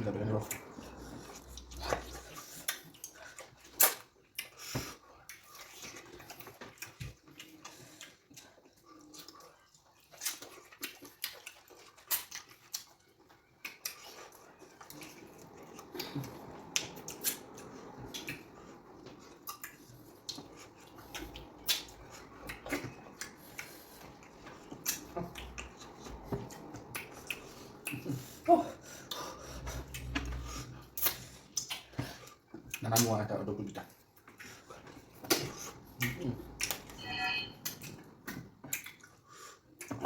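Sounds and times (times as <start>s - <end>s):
wet chewing and lip smacks: 0.2s - 37.0s, 37.6s - 40.0s.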